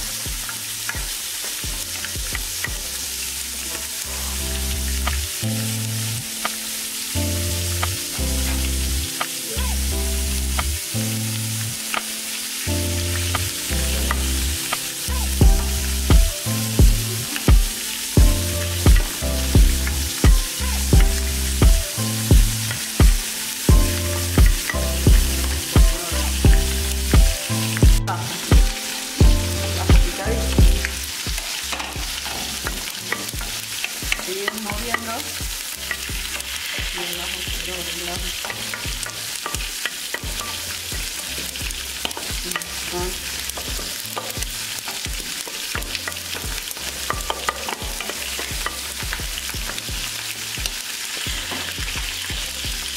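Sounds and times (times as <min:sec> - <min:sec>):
background music with steady beat: 0:00.0 - 0:03.2, 0:04.4 - 0:52.9
onions sizzling in hot oil: 0:00.0 - 0:52.9.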